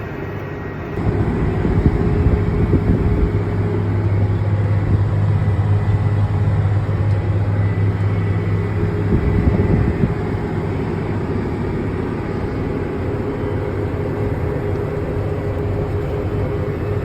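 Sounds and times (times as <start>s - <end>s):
tractor diesel engine droning: 0.0s - 17.0s.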